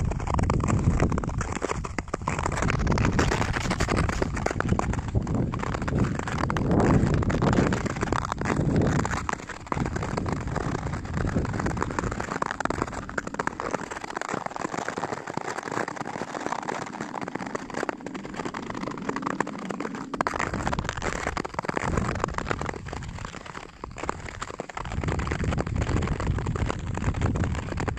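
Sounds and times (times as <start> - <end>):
wind rumbling on microphone: 0.0 - 14.8, 16.9 - 27.9
skate blades scraping ice: 0.0 - 27.9.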